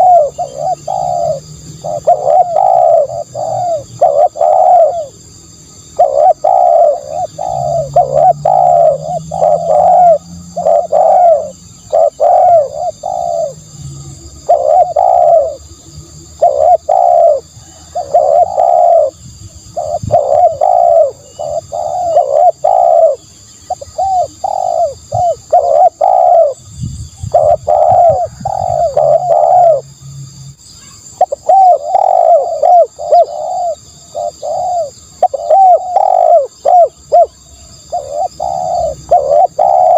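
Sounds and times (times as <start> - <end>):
dove cooing: 0.0 - 29.9, 31.1 - 39.9.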